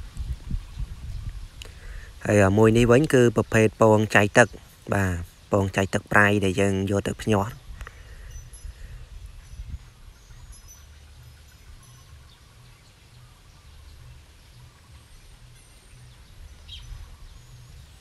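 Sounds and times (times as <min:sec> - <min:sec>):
faint bird chirps: 0:00.4 - 0:18.0.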